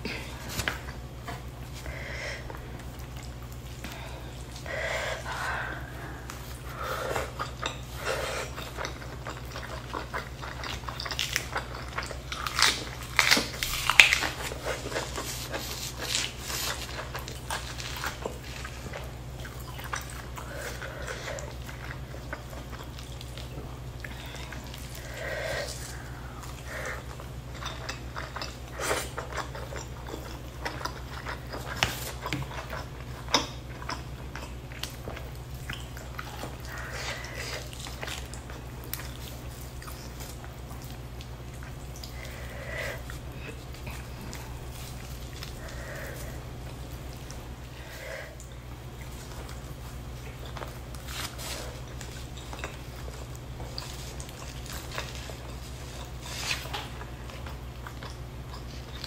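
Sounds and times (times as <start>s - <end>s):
person chewing and lip-smacking: 2.4s - 59.0s.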